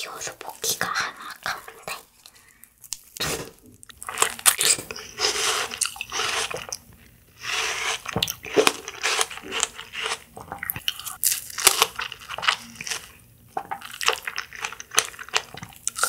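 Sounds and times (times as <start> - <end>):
wet crunchy chewing: 1.9 - 16.0.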